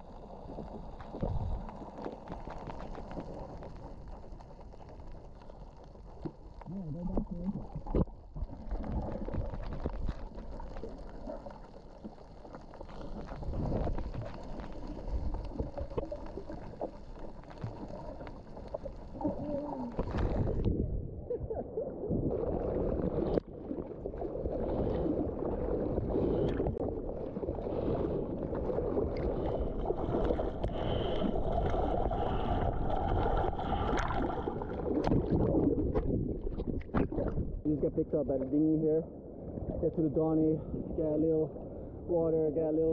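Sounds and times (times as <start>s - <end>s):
water rushing: 6.1s - 41.6s.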